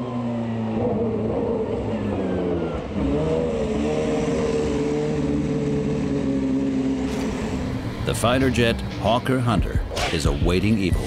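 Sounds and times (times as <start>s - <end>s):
racing car engine running: 0.0s - 11.0s.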